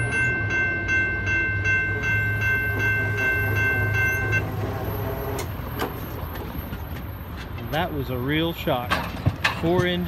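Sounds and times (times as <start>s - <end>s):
crossing warning bell ringing: 0.0s - 9.8s.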